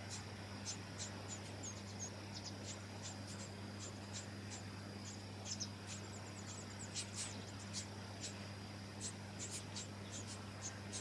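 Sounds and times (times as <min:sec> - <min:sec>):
nestlings begging calls: 0:00.0 - 0:11.0.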